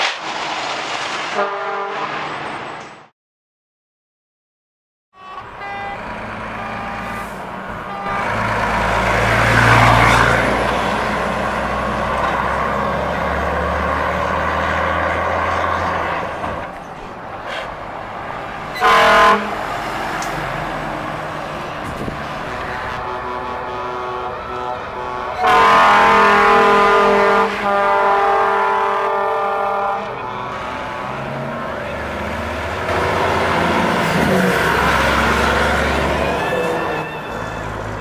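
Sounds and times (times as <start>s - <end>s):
truck horn blast: 1.4s - 2.2s, 5.2s - 16.4s, 18.7s - 38.0s
truck engine running: 6.0s - 38.0s.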